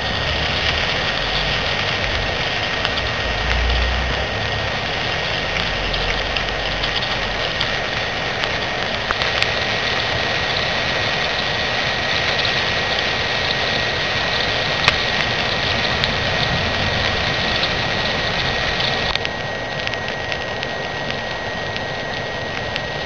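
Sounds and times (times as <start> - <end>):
charcoal fire popping: 0.0 - 23.0
stove fan whining: 0.0 - 23.0.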